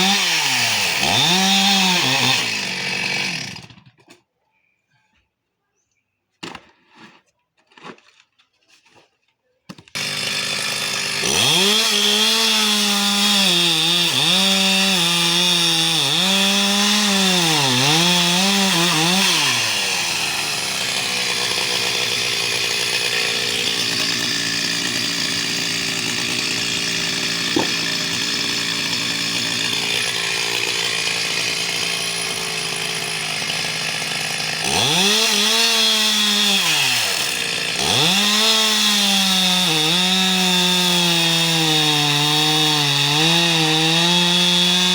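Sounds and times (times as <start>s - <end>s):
chainsaw cutting wood: 0.0s - 4.0s, 9.7s - 44.9s.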